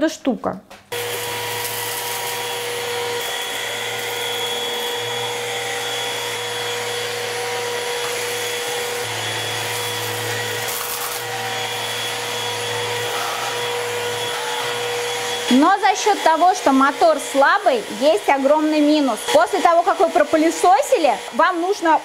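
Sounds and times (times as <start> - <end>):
stick vacuum running on carpet: 0.9 - 22.0.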